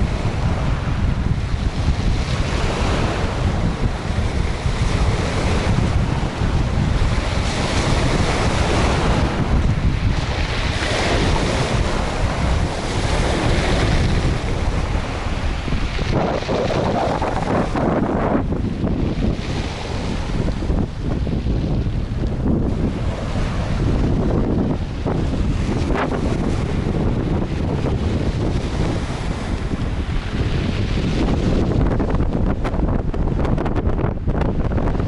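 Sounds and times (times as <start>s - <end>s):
rushing wind gusts: 0.0s - 35.0s
wind buffeting microphone: 0.0s - 35.0s.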